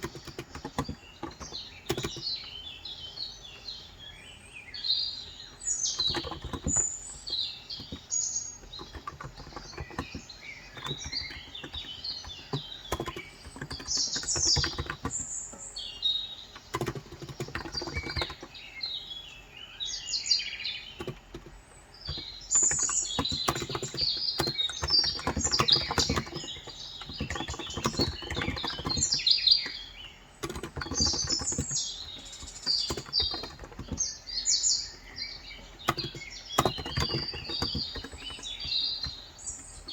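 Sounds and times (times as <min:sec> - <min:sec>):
typing on a keyboard: 0:00.0 - 0:02.7, 0:05.5 - 0:18.6, 0:20.8 - 0:39.9
small birds chirping: 0:00.0 - 0:39.9.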